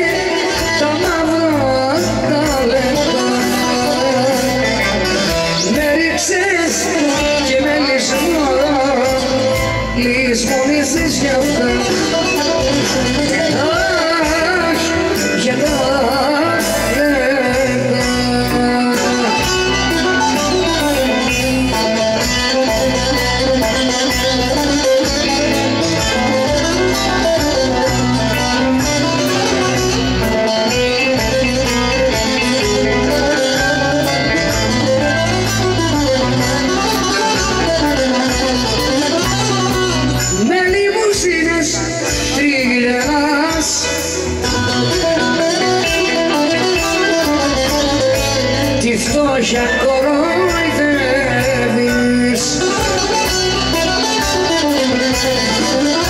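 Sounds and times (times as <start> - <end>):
live band with bouzouki: 0.0 - 56.0.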